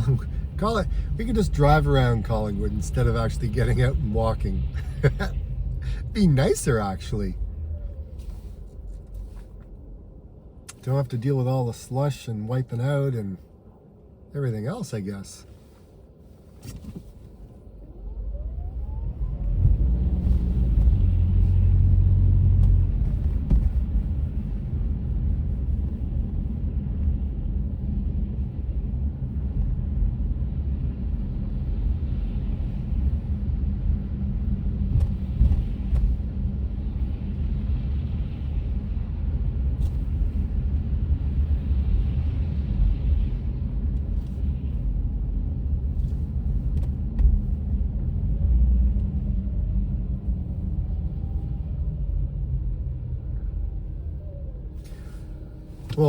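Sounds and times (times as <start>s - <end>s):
car rumble from inside cabin: 0.0s - 56.0s.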